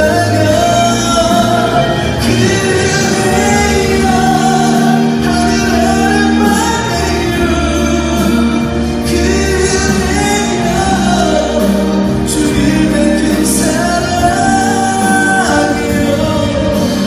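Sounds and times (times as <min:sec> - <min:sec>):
backing track: 0:00.0 - 0:17.0
man singing ballad: 0:00.0 - 0:17.0.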